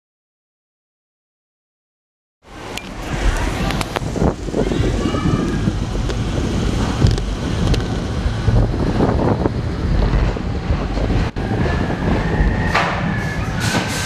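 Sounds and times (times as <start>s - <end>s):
roller coaster rumbling on track: 2.4s - 14.0s
wind buffeting microphone: 2.5s - 14.0s.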